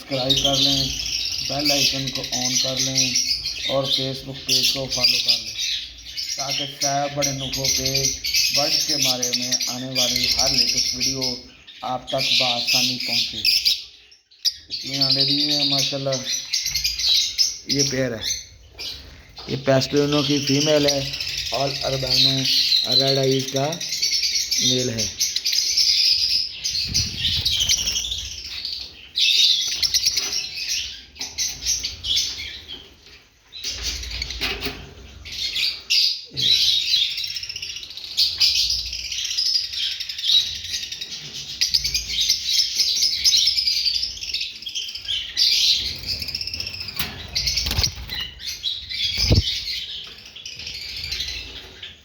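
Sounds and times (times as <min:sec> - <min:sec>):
lovebirds twittering: 0:00.0 - 0:52.0.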